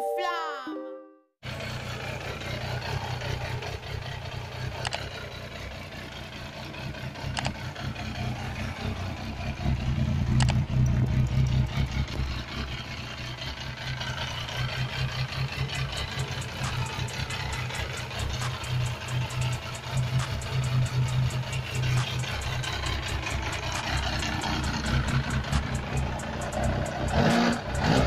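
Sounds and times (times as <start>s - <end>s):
motorcycle engine idling: 1.4s - 28.0s.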